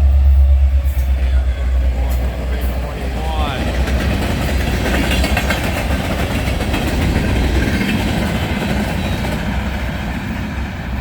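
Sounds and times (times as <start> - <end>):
freight train rumbling past: 0.0 - 11.0
wheels clicking over rail joints: 0.8 - 11.0.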